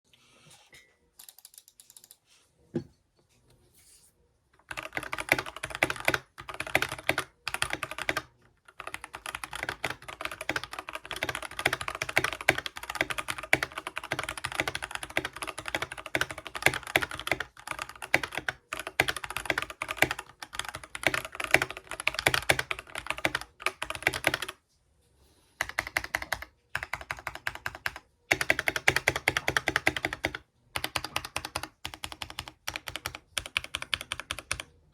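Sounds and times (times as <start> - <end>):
mechanical keyboard typing: 4.6 - 24.6, 25.6 - 34.8.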